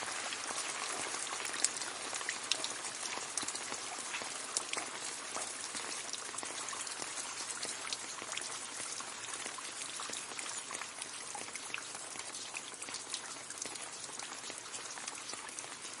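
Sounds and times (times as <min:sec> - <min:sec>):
rain falling on leaves: 0:00.0 - 0:16.0.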